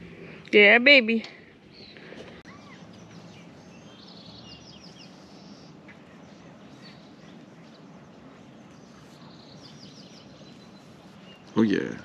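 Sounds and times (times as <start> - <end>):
birds calling: 0.0 - 12.0
steady low hum: 0.0 - 12.0.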